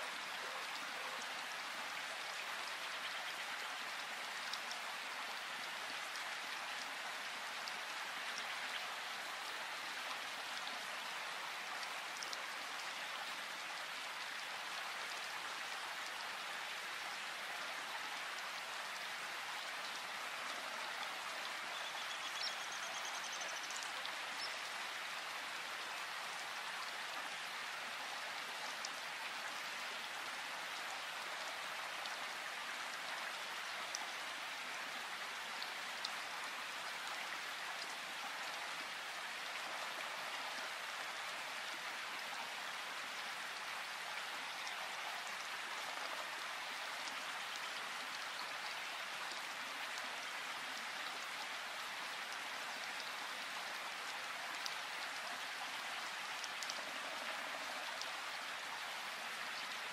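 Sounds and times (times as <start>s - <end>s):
rain falling in forest: 0.0s - 59.9s.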